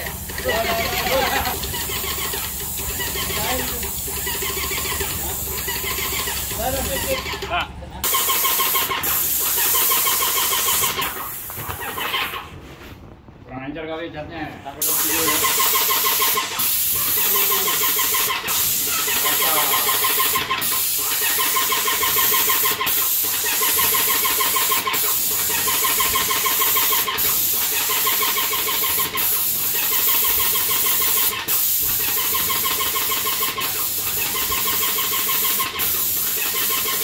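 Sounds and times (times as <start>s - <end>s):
paint spray hiss: 0.0s - 7.4s, 8.0s - 12.4s, 14.8s - 37.0s
paint sprayer pump droning: 0.0s - 12.4s, 14.8s - 37.0s.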